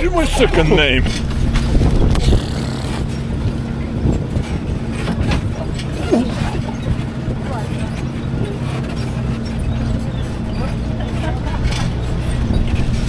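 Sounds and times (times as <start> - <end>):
ride noise: 0.0 - 13.0
truck engine hum: 0.0 - 13.0.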